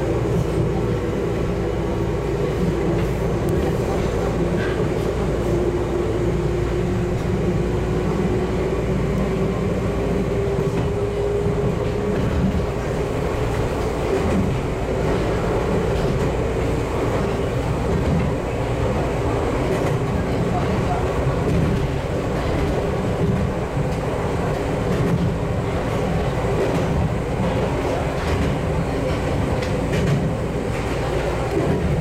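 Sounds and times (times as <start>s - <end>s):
wheels rumbling on rail: 0.0s - 32.0s.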